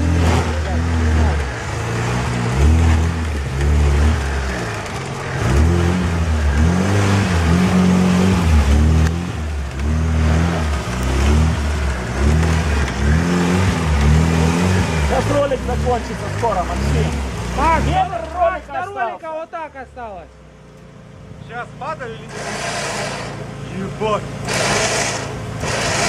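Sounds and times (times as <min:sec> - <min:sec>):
car engine revving: 0:00.0 - 0:18.7, 0:20.9 - 0:26.0.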